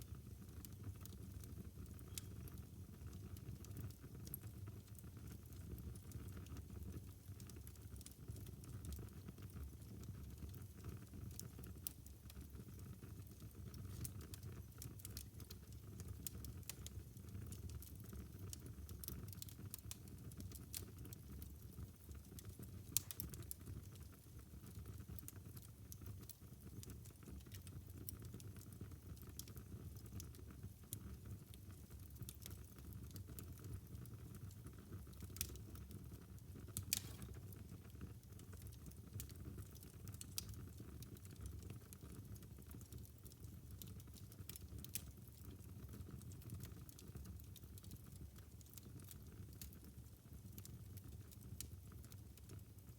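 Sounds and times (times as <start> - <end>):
fire crackling and popping: 0.0 - 52.9.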